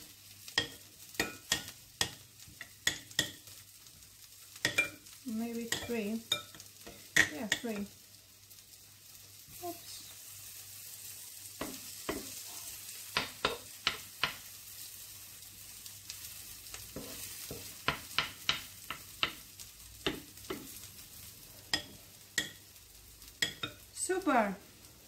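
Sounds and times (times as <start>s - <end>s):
patties sizzling in a frying pan: 0.0s - 25.0s.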